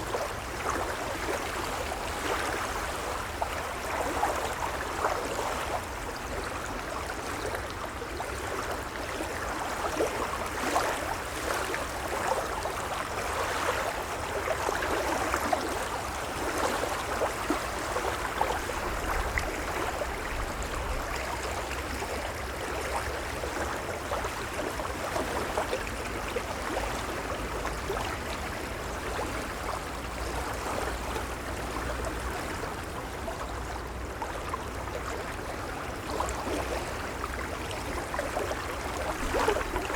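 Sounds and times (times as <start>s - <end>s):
gentle waves lapping: 0.0s - 39.9s.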